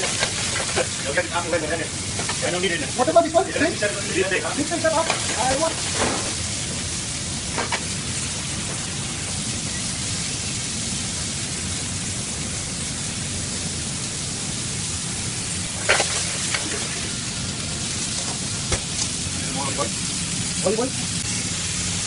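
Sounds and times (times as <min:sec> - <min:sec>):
beef sizzling in a frying pan: 0:00.0 - 0:22.0.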